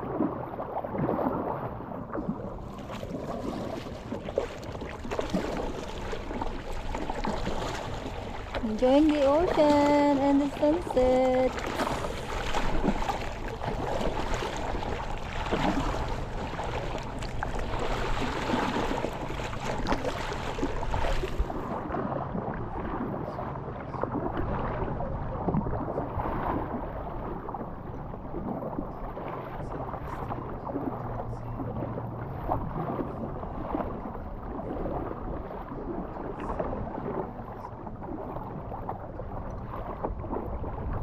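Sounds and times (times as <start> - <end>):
water lapping around a kayak: 0.0 - 41.0
wind buffeting microphone: 0.0 - 41.0.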